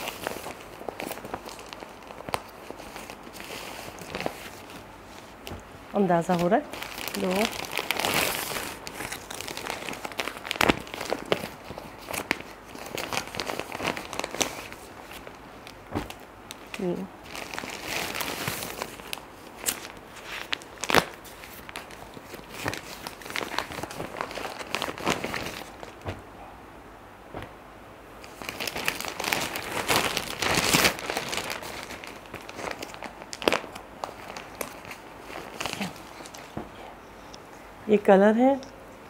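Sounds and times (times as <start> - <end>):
plastic packaging crinkling: 0.0 - 26.3, 28.2 - 36.9
fabric rustling: 0.0 - 26.6, 27.2 - 37.2.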